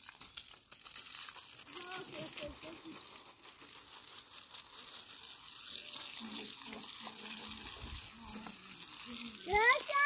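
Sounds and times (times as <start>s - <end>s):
hose spraying water on dirt: 0.0s - 10.0s.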